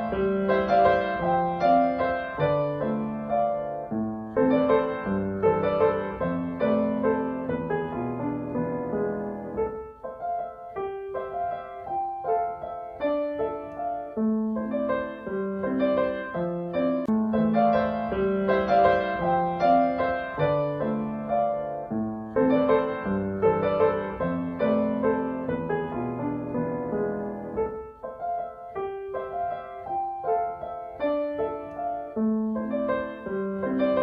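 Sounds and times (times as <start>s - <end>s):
gentle piano music: 0.0s - 34.0s.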